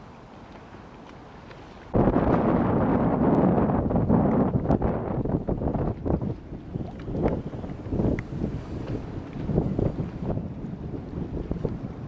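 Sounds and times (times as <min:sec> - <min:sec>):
wind buffeting microphone: 0:01.9 - 0:12.0.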